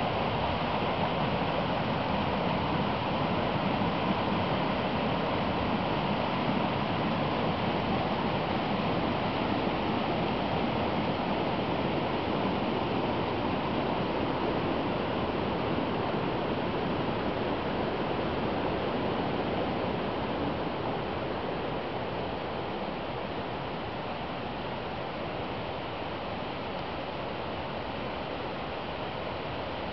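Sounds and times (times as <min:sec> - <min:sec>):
brook rushing over small falls: 0:00.0 - 0:29.9.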